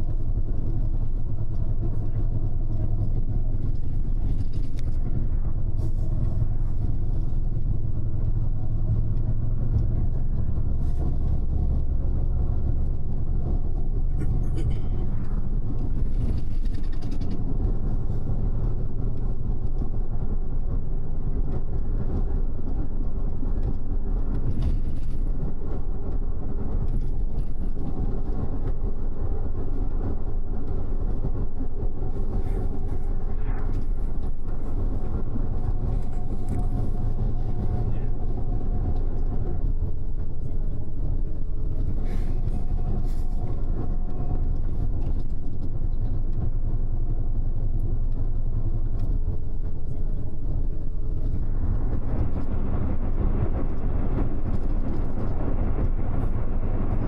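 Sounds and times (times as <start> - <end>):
bus engine drone: 0.0 - 57.0
tyres rumbling on road: 0.0 - 57.0.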